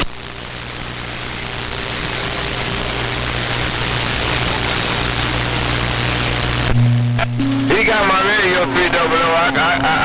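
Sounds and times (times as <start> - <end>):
radio static hiss: 0.0 - 10.0
steady hum tone: 0.0 - 10.0
steady low hum: 0.0 - 10.0.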